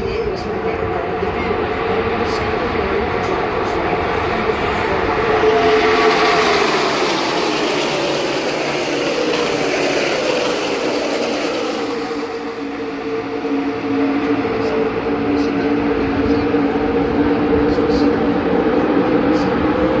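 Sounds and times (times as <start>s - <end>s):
race cars passing by: 0.0s - 20.0s.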